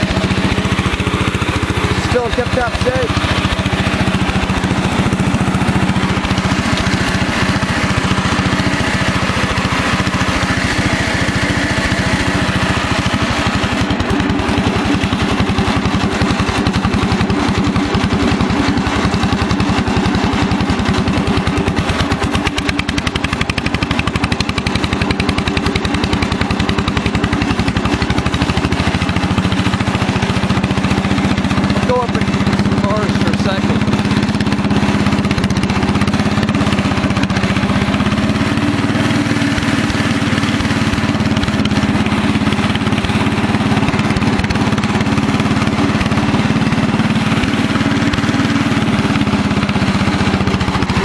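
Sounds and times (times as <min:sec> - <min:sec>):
garden tractor engine running hard: 0:00.0 - 0:51.0.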